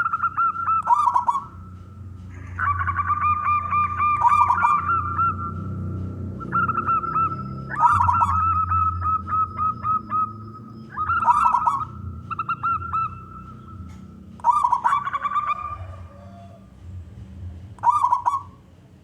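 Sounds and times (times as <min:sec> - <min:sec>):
dove cooing: 0:00.0 - 0:16.8, 0:17.7 - 0:18.6
low hum: 0:00.0 - 0:18.8.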